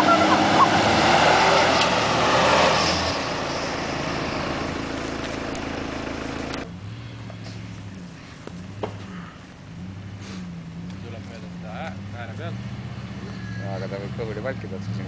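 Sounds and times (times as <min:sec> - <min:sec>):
off-road engine working hard: 0:00.0 - 0:15.0.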